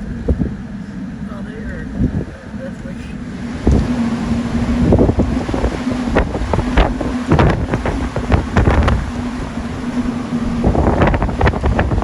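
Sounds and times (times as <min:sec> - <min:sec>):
steady low hum: 0:00.0 - 0:12.0
strong wind buffeting microphone: 0:00.0 - 0:12.0.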